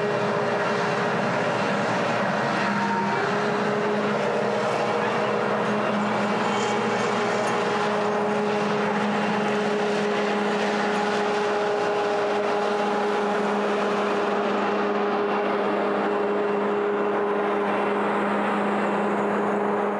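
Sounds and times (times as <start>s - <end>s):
combine harvester running: 0.0s - 19.9s.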